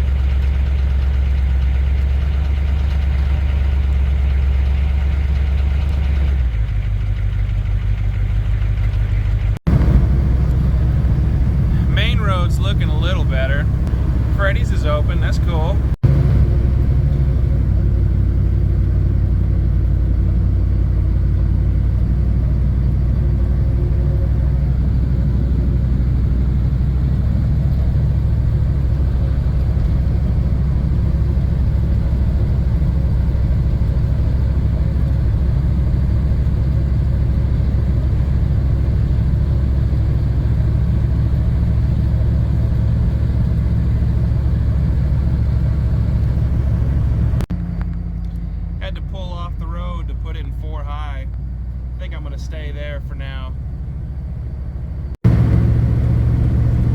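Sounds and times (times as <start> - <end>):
diesel engine low rumble: 0.0 - 56.9.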